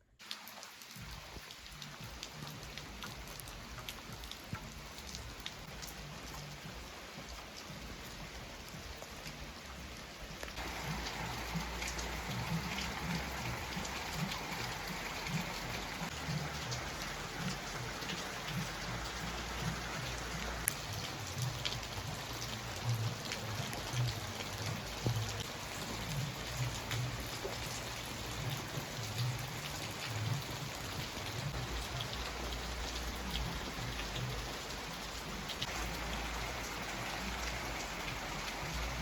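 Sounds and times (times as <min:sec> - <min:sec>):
rain drops on hard surfaces: 0:00.0 - 0:39.0.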